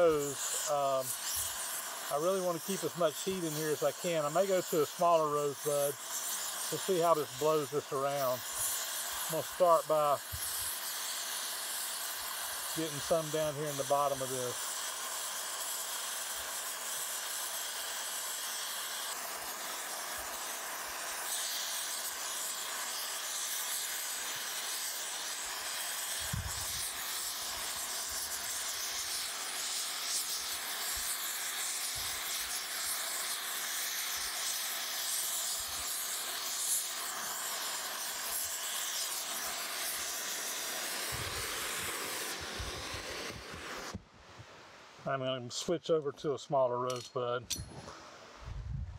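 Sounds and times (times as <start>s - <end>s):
torch flame hissing: 0.0s - 45.1s.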